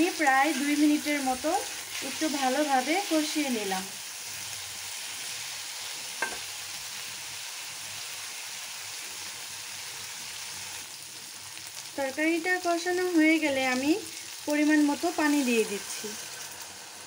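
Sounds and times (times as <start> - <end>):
potatoes sizzling in iron pan: 0.0 - 17.0.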